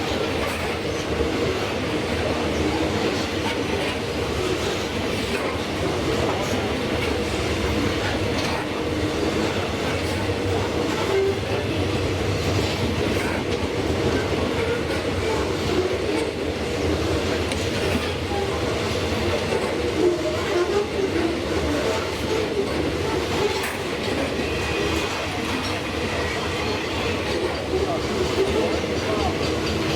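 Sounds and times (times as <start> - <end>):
train wheels rumbling on track: 0.0 - 29.9.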